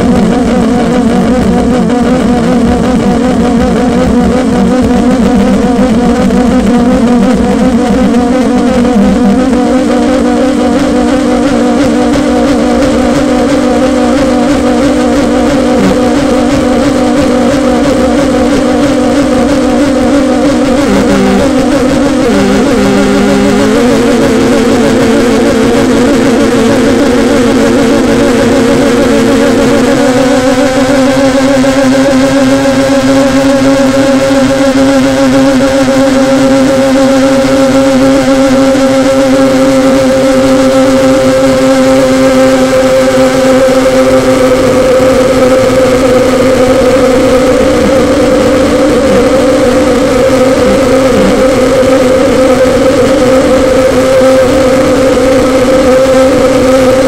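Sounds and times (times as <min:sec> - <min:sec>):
wavering noise instrument drone: 0:00.0 - 0:57.0.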